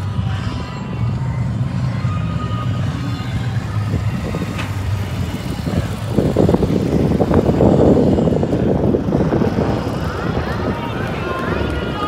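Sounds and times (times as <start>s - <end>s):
helicopter rotor chop: 0.0s - 12.0s
low engine hum: 0.0s - 12.0s.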